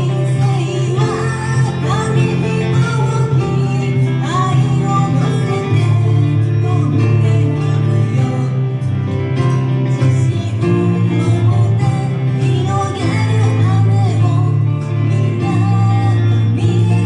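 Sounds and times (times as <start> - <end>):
guitar: 0.0 - 17.0
live band playing pop song: 0.0 - 17.0.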